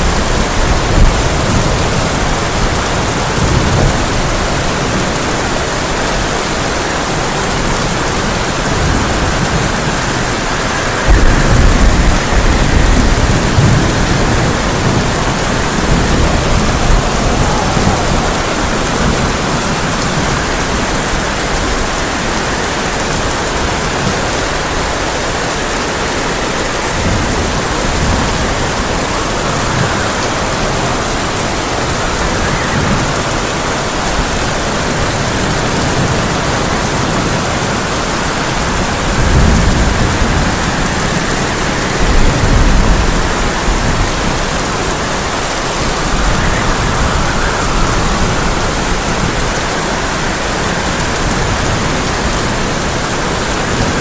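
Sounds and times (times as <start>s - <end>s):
heavy rain on a tin roof: 0.0s - 54.0s
thunder rumble: 0.0s - 54.0s.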